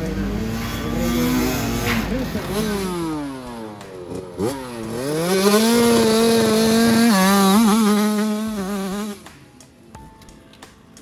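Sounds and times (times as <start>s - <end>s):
motorbike engine revving: 0.0s - 9.4s.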